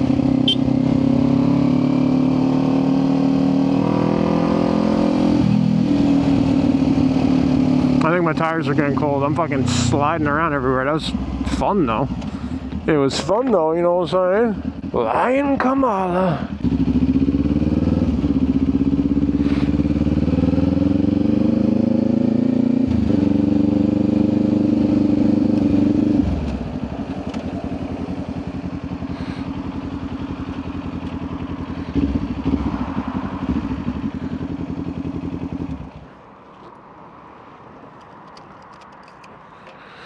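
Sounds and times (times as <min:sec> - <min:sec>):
motorcycle engine revving: 0:00.0 - 0:36.1.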